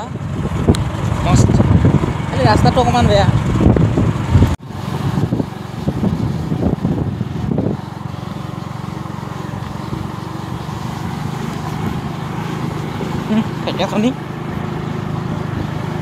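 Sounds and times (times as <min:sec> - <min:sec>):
motorbike engine running: 0:00.0 - 0:16.0
wind and road noise: 0:00.0 - 0:16.0.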